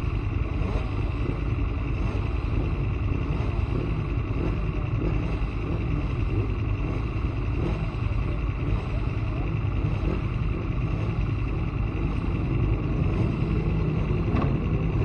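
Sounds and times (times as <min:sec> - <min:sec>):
motorcycle engine: 0:00.0 - 0:15.0.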